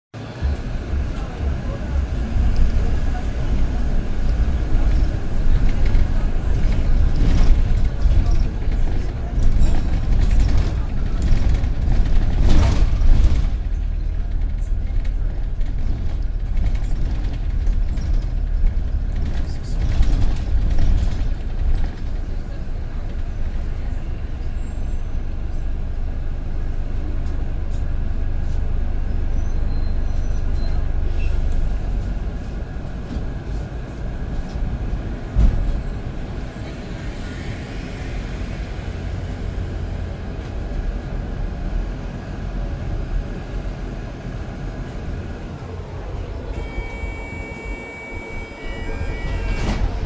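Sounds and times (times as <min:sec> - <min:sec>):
bus engine and road rumble: 0:00.1 - 0:50.0.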